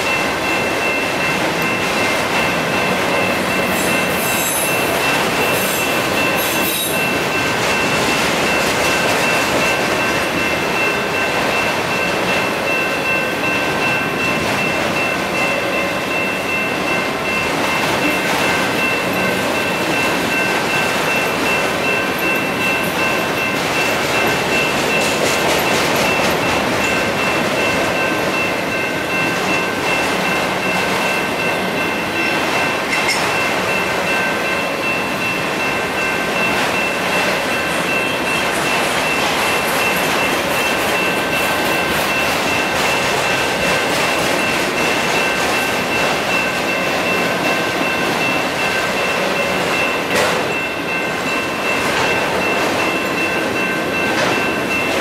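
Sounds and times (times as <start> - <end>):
crossing bells ringing: 0.0 - 55.0
freight train wheels on rails: 0.0 - 55.0.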